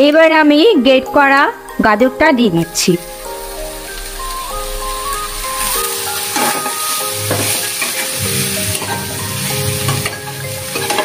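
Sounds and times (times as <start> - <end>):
vegetables sizzling in a pan: 2.0 - 11.0.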